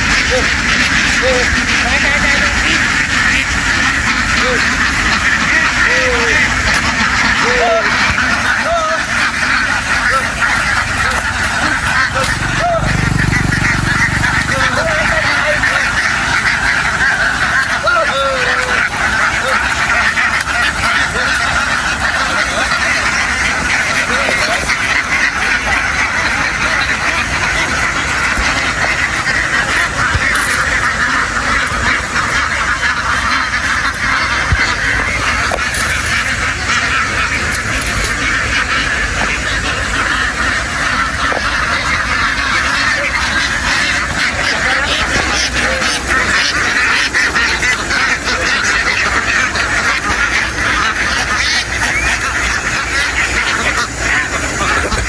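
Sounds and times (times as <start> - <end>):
flock of ducks quacking: 0.0 - 55.0.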